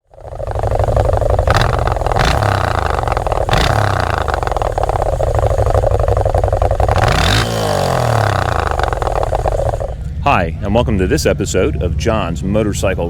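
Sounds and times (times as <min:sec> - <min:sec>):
motorcycle passing by: 0:00.0 - 0:12.3
motorcycle engines revving: 0:00.0 - 0:13.0.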